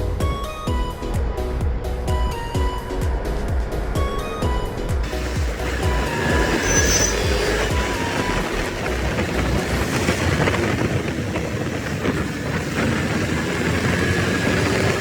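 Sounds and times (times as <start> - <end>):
rushing wind: 0.0 - 15.0
vehicle and road noise: 0.0 - 15.0.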